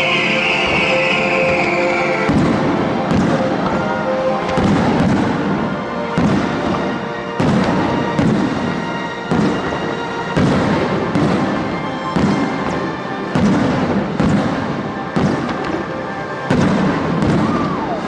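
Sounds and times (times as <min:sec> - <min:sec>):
fireworks shell bursts booming: 0:00.0 - 0:17.7
music over loudspeakers: 0:00.0 - 0:18.0.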